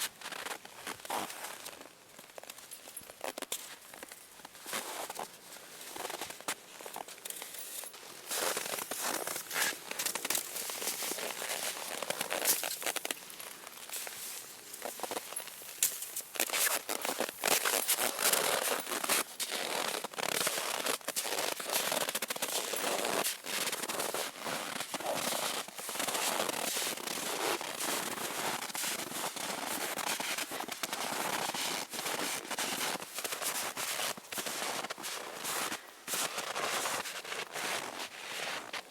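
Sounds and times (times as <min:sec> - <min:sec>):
footsteps crunching through snow: 0:00.0 - 0:38.9.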